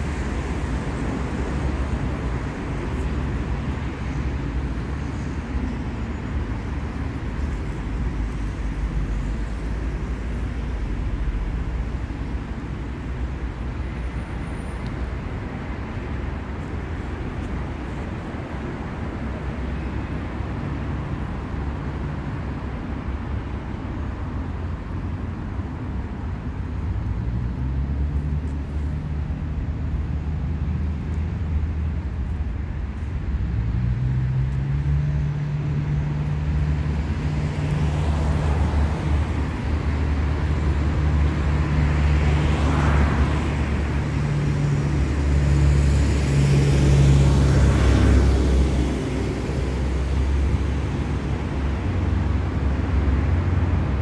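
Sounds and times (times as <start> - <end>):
cars passing: 0.0 - 54.0
vehicle engine humming: 0.0 - 54.0.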